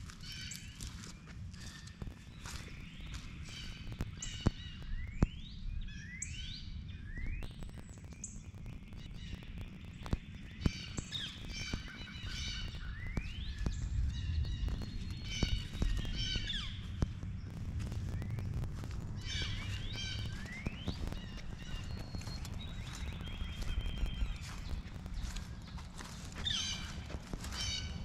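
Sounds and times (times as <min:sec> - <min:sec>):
footsteps crunching dry grass: 0:00.0 - 0:04.9, 0:09.0 - 0:28.0
low microphone rumble: 0:00.0 - 0:28.0
songbirds calling: 0:00.0 - 0:28.0.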